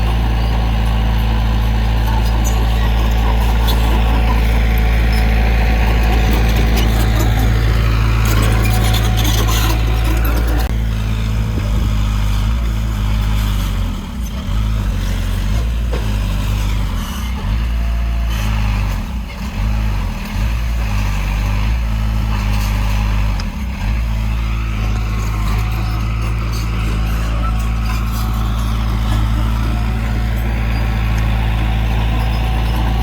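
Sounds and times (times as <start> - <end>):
earthmoving machinery rumbling: 0.0 - 17.8, 21.6 - 33.0.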